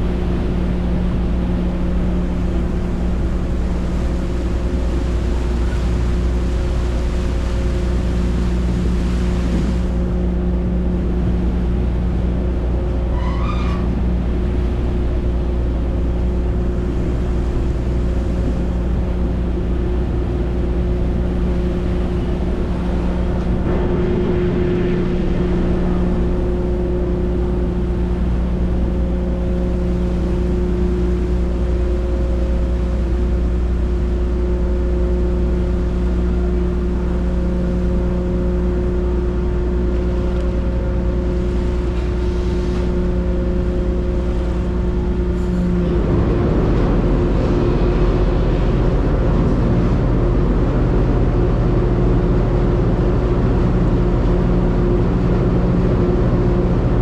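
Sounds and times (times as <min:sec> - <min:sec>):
ferry diesel engine droning: 0:00.0 - 0:57.0.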